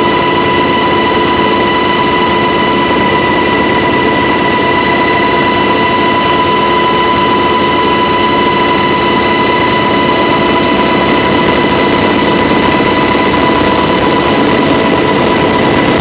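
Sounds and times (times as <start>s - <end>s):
helicopter turbines and rotor: 0.0s - 16.0s
high steady whine: 0.0s - 16.0s.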